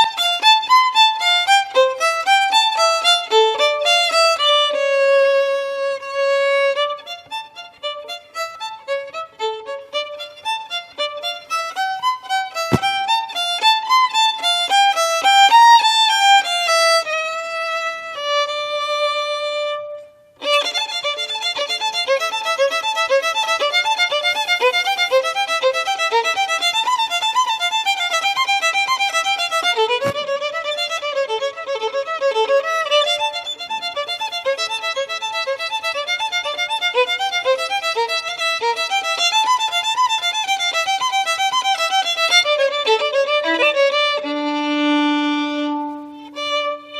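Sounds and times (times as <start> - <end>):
violin melody: 0.0 - 46.9.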